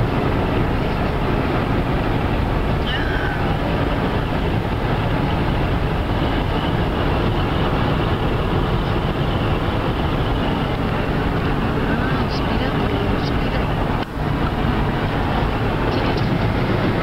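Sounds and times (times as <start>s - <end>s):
road noise inside moving car: 0.0s - 17.0s
wind noise: 0.0s - 17.0s.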